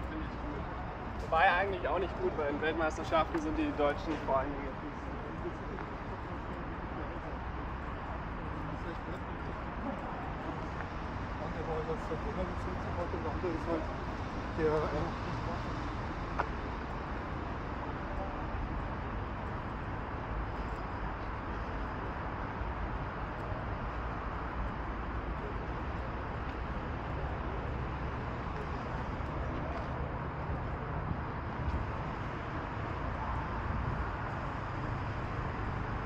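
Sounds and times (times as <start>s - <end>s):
low hum of road traffic: 0.0s - 36.0s.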